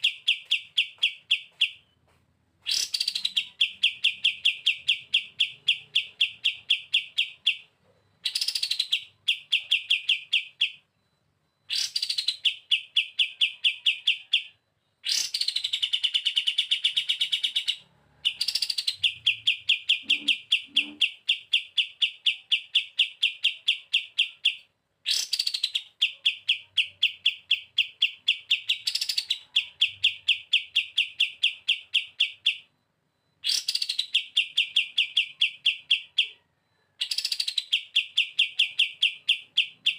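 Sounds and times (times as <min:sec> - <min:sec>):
songbird trilling: 0:00.0 - 0:02.0, 0:02.6 - 0:10.9, 0:11.6 - 0:32.7, 0:33.4 - 0:39.9.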